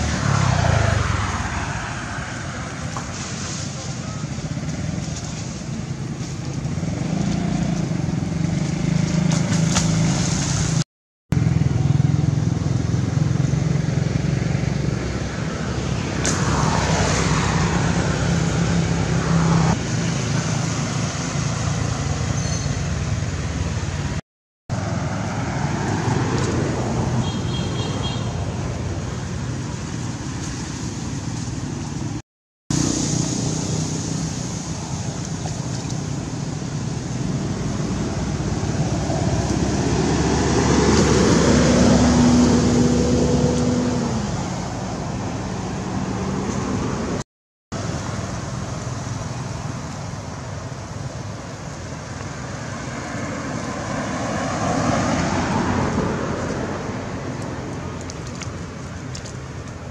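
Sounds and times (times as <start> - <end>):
road traffic noise: 0.0 - 59.9
vehicles passing by: 0.0 - 59.9.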